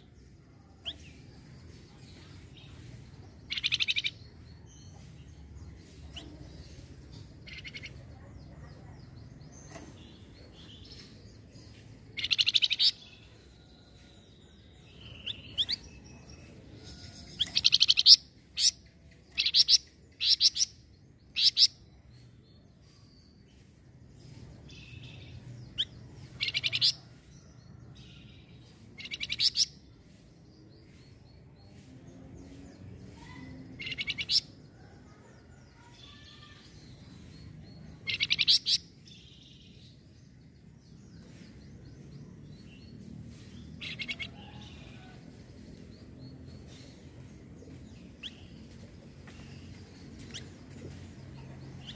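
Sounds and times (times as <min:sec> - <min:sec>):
songbird pulsed chirping: 0:00.0 - 0:51.9.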